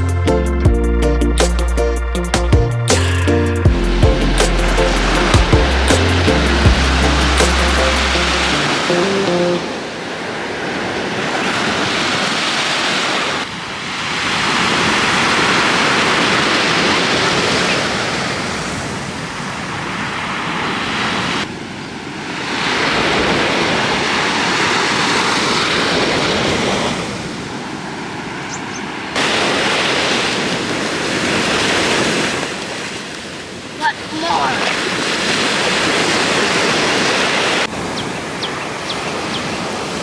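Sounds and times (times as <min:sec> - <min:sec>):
sea surf breaking on beach: 0:03.7 - 0:40.0.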